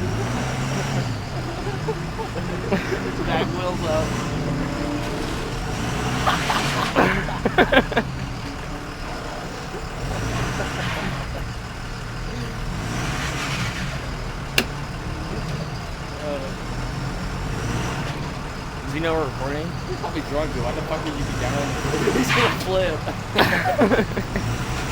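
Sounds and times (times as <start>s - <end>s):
truck engine rumbling: 0.0s - 24.9s.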